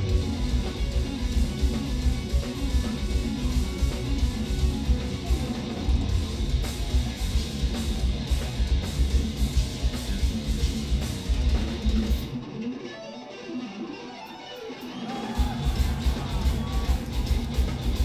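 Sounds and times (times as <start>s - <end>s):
heavy drums and cymbals: 0.0s - 12.2s, 15.4s - 18.0s
electric guitars: 0.0s - 18.0s.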